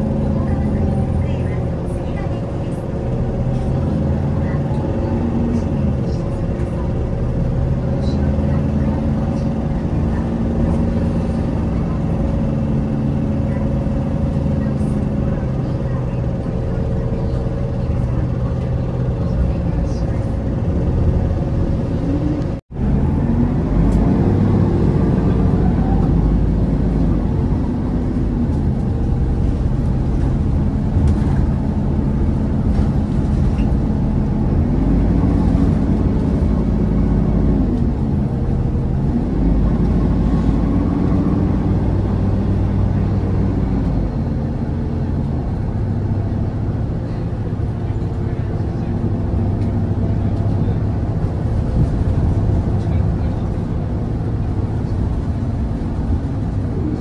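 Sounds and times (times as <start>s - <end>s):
bus engine and road noise: 0.0s - 57.0s.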